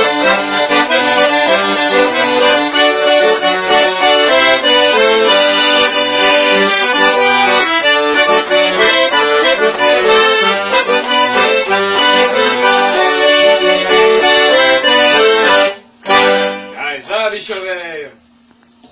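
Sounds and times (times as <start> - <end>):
accordion playing lively tune: 0.0 - 16.9.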